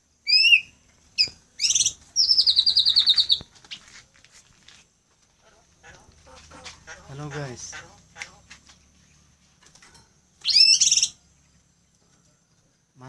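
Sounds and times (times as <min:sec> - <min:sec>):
songbird chirping and trilling: 0:00.0 - 0:04.0, 0:05.1 - 0:13.0.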